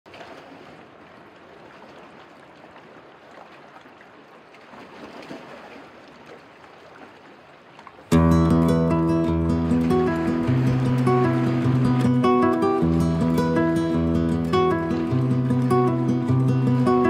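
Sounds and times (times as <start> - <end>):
sea water lapping over rocks: 0.1 - 17.0.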